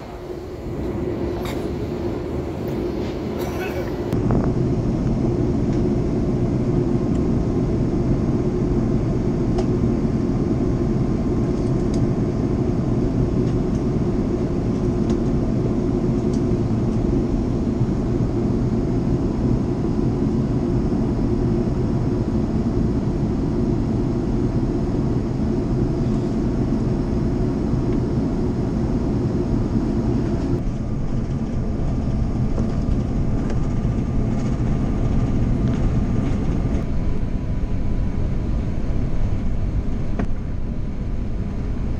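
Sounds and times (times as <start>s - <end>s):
airliner cabin engine rush: 0.0s - 41.9s.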